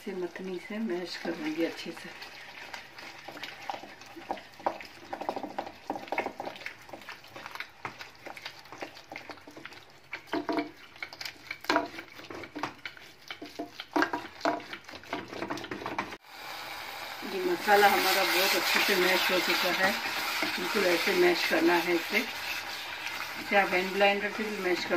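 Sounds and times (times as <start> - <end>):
wooden churner mashing thick curry: 0.1 - 16.2, 18.0 - 24.9.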